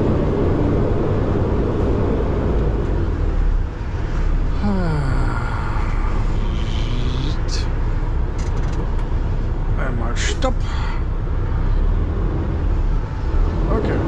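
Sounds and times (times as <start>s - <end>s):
road rumble: 0.0s - 14.0s
truck diesel engine: 0.0s - 14.0s.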